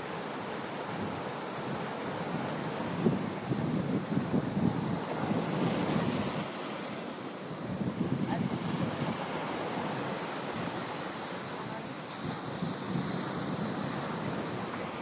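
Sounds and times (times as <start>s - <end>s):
sea waves breaking on shore: 0.0s - 15.0s
wind buffeting microphone: 0.7s - 15.0s.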